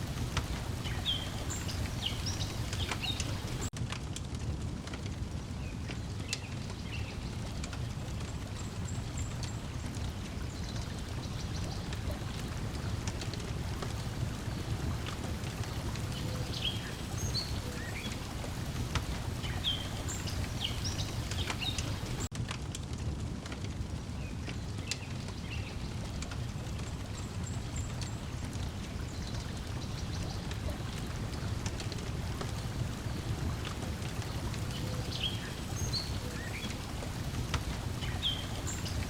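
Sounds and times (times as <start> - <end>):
low wash of water: 0.0 - 3.7, 4.4 - 22.3, 22.9 - 39.0
wood fire crackling: 0.0 - 39.0.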